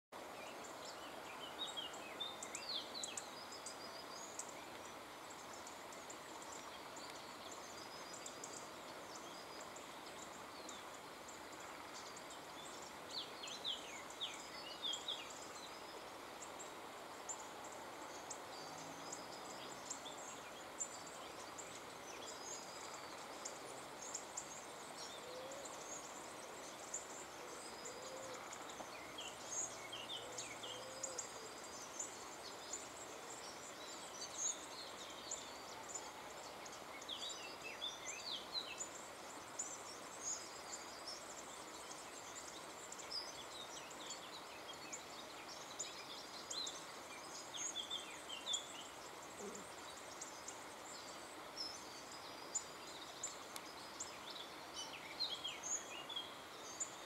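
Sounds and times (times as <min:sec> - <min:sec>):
songbirds chirping: 0:00.1 - 0:57.0
steady background hiss: 0:00.2 - 0:57.0.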